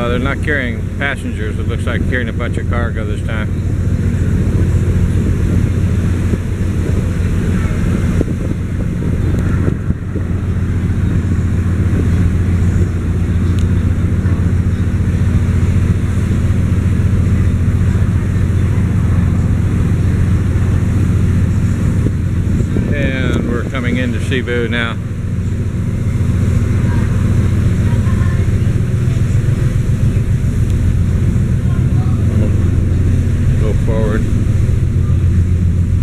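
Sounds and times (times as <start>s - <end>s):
ferry engines droning: 0.0s - 36.0s
wind rushing over microphone: 0.0s - 36.0s.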